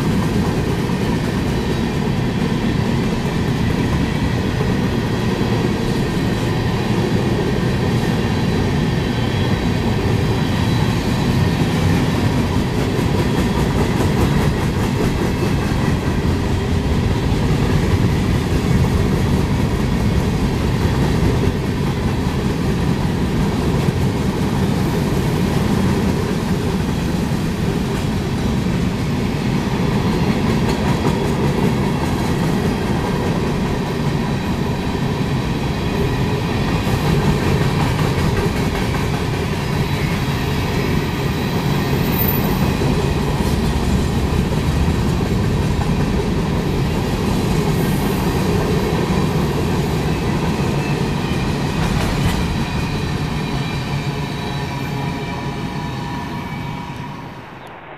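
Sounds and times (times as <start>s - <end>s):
freight train rolling past: 0.0s - 57.9s.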